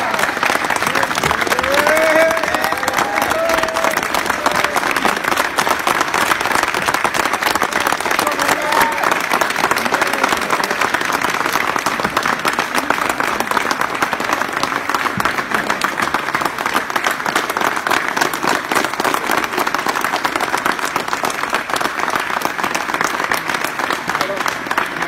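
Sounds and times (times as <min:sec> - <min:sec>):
crowd applauding: 0:00.0 - 0:25.0.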